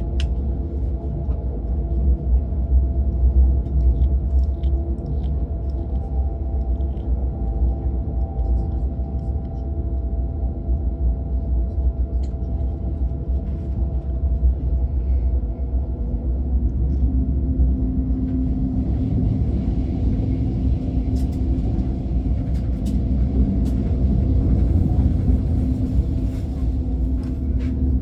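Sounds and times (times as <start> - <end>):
constant hum: 0.0 - 28.0
train rumble inside carriage: 0.0 - 28.0.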